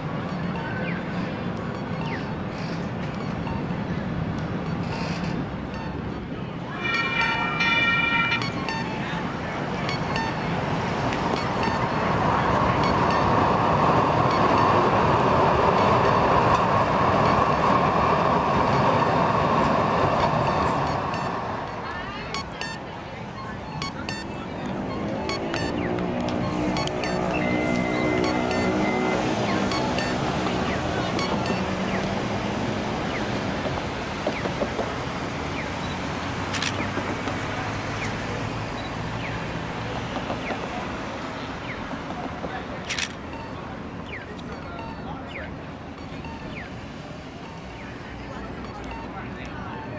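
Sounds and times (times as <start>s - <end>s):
city traffic: 0.0s - 49.9s
train hum: 0.0s - 49.9s
wind: 0.0s - 49.9s
train rumbling over rails: 6.6s - 47.8s.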